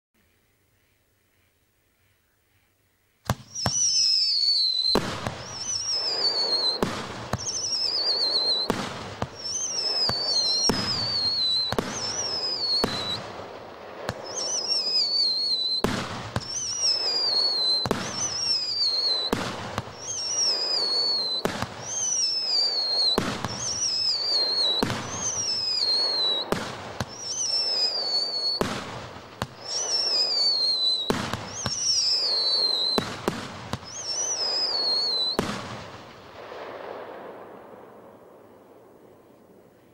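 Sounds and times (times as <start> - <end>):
firework bangs: 3.3 - 39.8
falling firework whistle: 3.3 - 39.9
firework crackle: 3.3 - 39.9.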